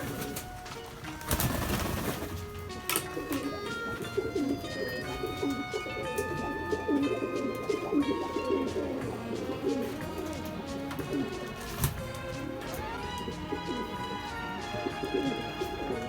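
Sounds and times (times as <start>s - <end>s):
music of held notes: 0.0s - 16.0s
pigeons cooing: 0.0s - 16.0s.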